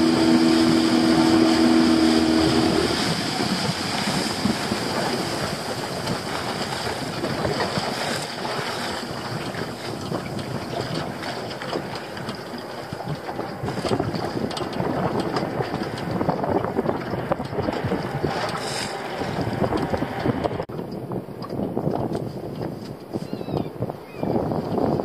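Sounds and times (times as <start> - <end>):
water splashing along boat hull: 0.0 - 25.0
wind buffeting microphone: 0.0 - 25.0.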